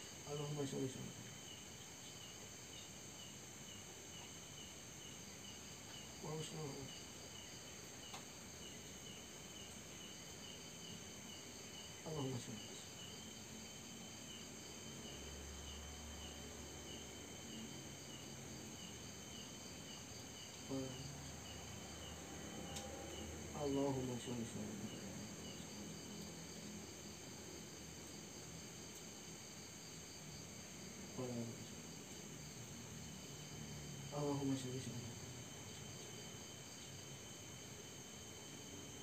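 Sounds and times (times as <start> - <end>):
constant high insect hum: 0.0 - 39.0
crickets chirping: 0.0 - 39.0.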